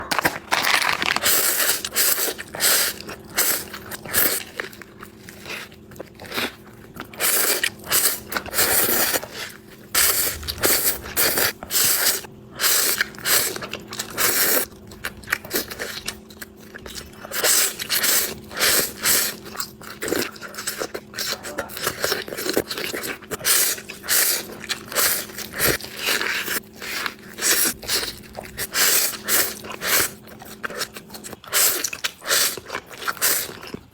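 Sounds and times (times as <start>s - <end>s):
biting and chewing noodles: 0.0s - 33.9s.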